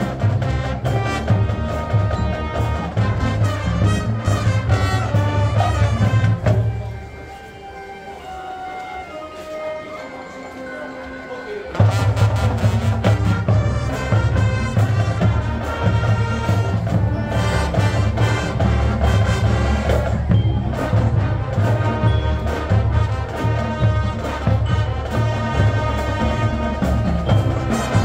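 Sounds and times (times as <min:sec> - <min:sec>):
drums: 0:00.0 - 0:10.4, 0:11.6 - 0:28.0
marching band playing: 0:00.0 - 0:28.0.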